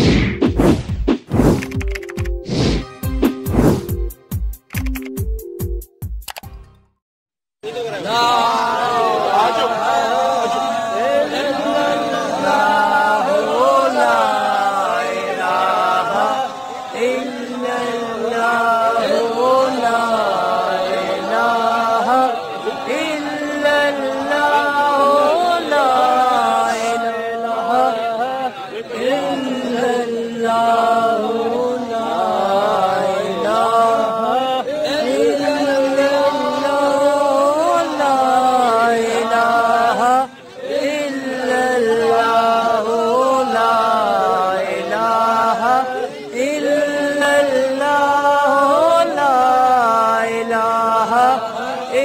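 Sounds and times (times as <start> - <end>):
men chanting prayer: 7.7 - 52.0.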